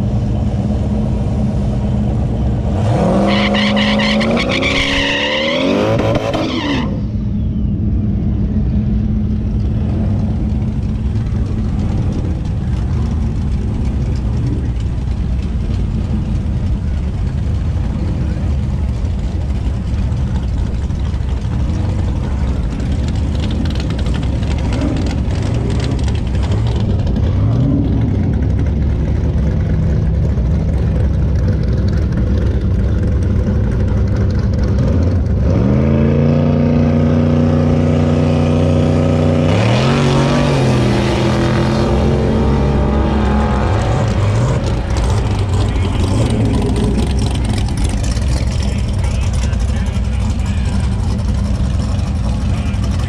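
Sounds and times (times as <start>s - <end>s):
drag car engine revving: 0.0s - 53.0s.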